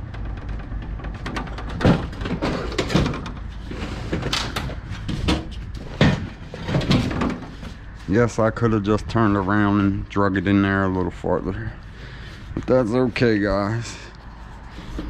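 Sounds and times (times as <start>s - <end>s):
metal radiators clanking: 0.0s - 15.0s.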